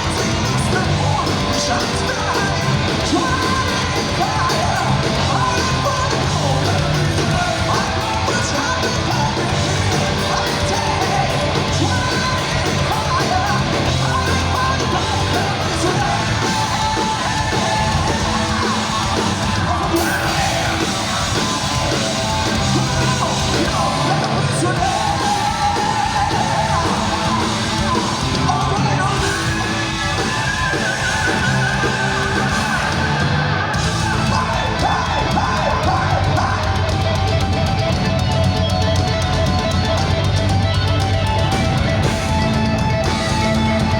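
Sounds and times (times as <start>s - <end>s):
singer yelling high vocals: 0.0s - 37.8s
heavy metal band playing: 0.0s - 43.9s.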